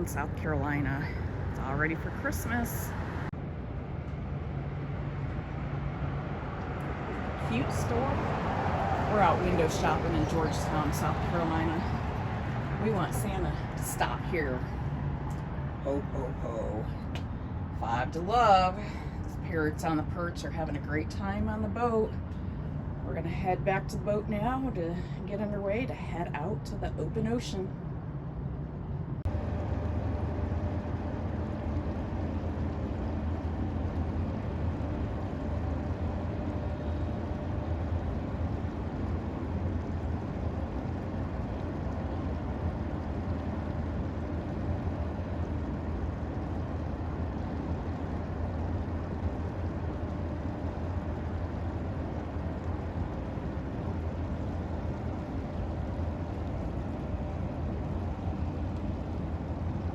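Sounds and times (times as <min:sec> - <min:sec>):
boat engine rumbling: 0:00.0 - 0:59.9
faint steady hum: 0:00.0 - 0:59.9.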